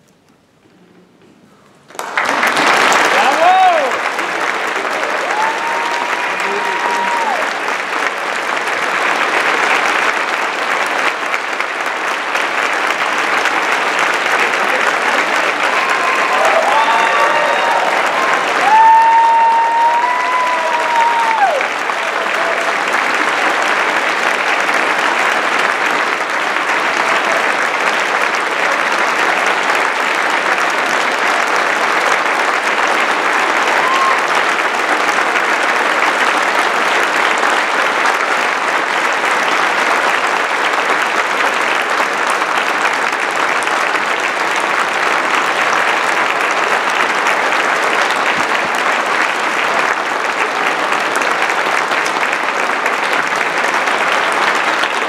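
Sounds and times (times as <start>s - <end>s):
audience applauding: 1.9s - 55.0s.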